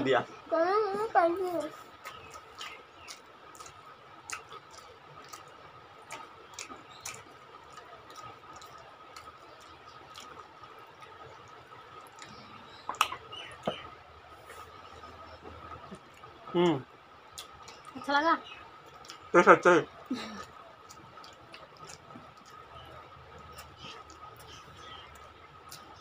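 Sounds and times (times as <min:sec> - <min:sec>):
mouths chewing: 0:00.9 - 0:26.0.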